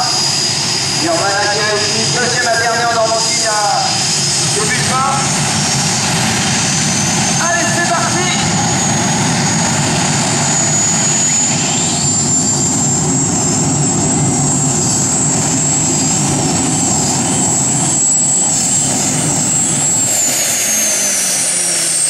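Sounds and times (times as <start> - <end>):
gas turbine engines whining: 0.0 - 22.0
loud rushing roar: 0.0 - 22.0.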